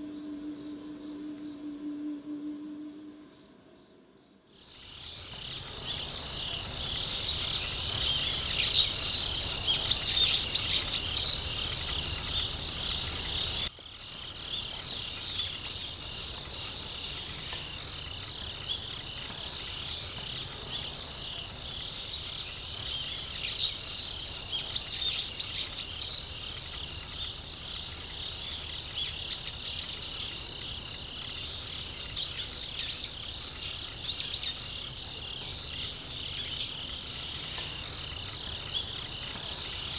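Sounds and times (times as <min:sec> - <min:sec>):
birds chirping and calling: 0:04.8 - 0:39.9.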